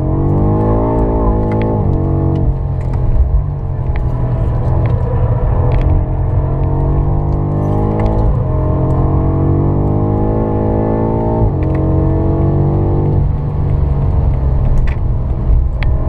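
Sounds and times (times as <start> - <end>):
car engine revving in cabin: 0.0 - 16.0.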